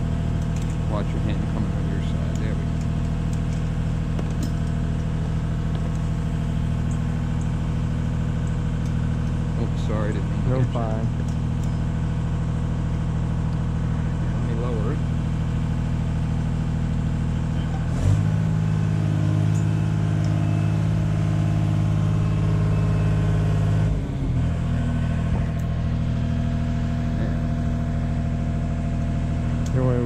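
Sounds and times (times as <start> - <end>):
lift engine running: 0.0 - 30.0.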